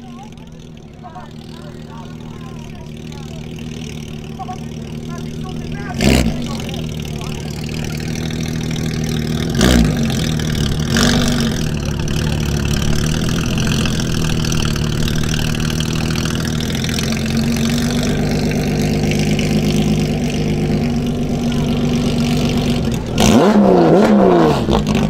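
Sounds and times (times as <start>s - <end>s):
car engine rumbling idle: 0.0s - 25.0s
car engine throttle blips: 0.0s - 25.0s.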